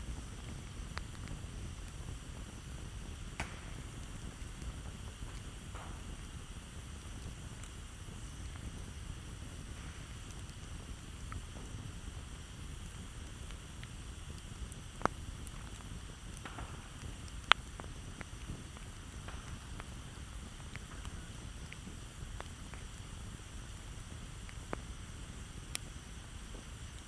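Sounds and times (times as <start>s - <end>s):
campfire crackling: 0.0s - 27.0s
fire low rumble: 0.0s - 27.0s
sharp fire pops: 0.0s - 27.0s.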